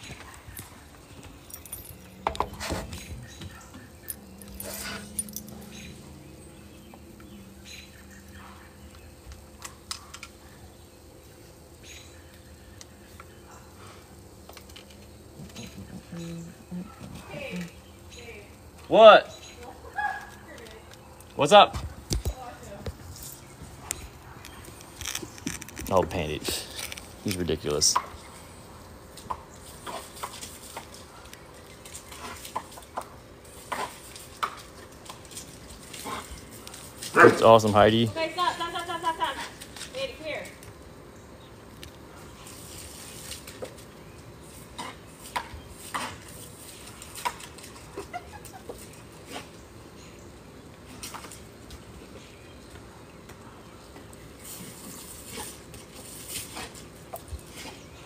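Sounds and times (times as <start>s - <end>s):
faint low hum: 0.0s - 58.0s.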